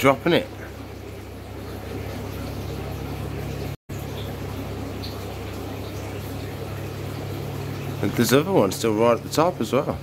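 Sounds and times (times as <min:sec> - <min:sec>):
water pump humming: 0:00.0 - 0:10.0.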